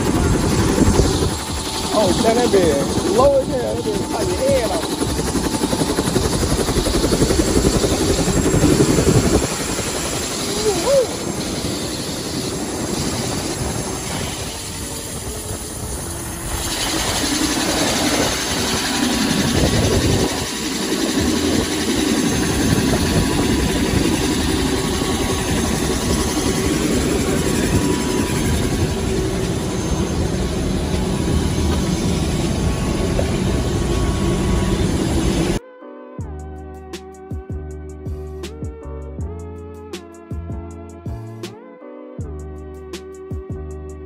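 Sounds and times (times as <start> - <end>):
helicopter engine and rotor drone: 0.0 - 35.6, 36.8 - 41.6.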